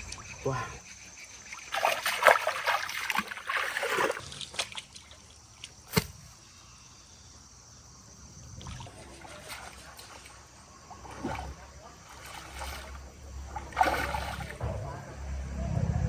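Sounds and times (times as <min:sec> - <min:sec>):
water splashing and sloshing: 0:00.0 - 0:06.3, 0:08.4 - 0:15.3.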